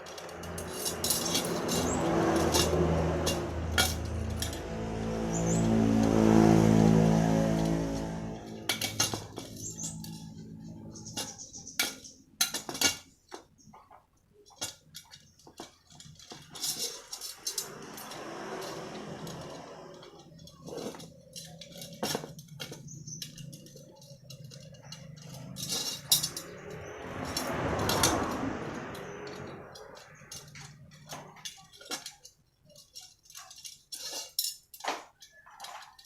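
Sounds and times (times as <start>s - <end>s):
metal spokes clinking: 0.0s - 36.0s.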